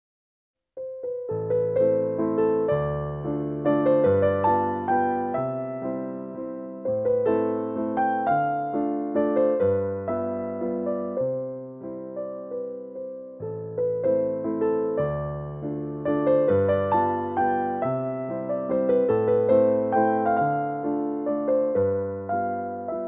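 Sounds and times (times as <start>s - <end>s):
gentle piano melody: 0.8s - 23.0s.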